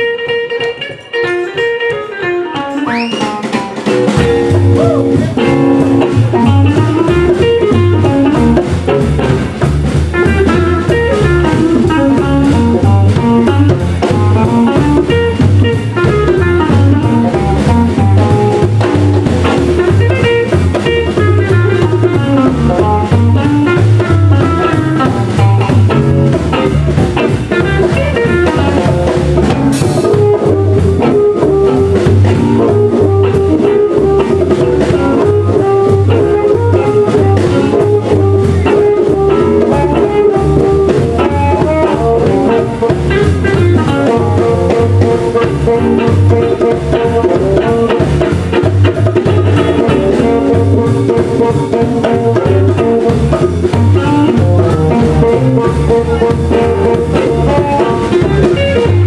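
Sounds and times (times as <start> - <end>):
conga drums: 0.0 - 59.0
drum kit: 0.0 - 59.0
guitar: 0.0 - 59.0
upright bass: 0.0 - 59.0.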